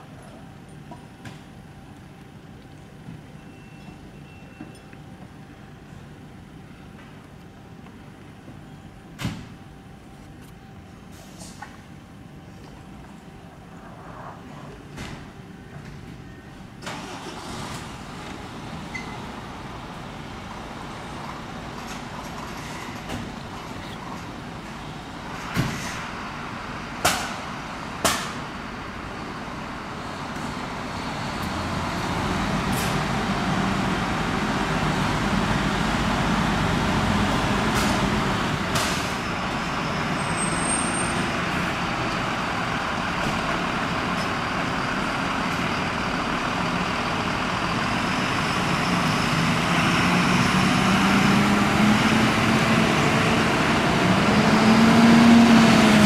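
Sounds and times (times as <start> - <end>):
fire truck diesel engines: 0.0 - 56.0.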